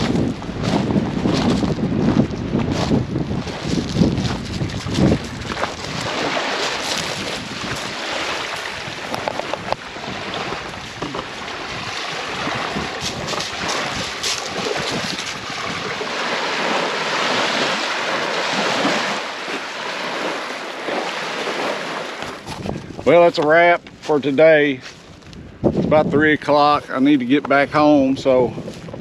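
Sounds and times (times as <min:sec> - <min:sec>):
waves washing onto gravel shore: 0:00.0 - 0:24.7
wind buffeting microphone: 0:00.0 - 0:29.0.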